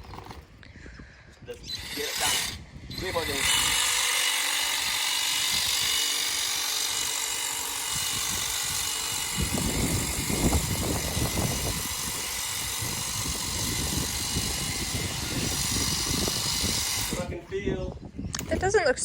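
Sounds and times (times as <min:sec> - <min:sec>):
hedge trimmer whining: 0:01.6 - 0:17.5, 0:18.4 - 0:18.8.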